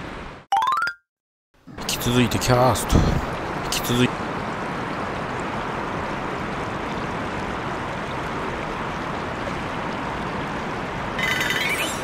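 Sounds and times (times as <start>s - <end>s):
river water running: 1.6s - 12.0s.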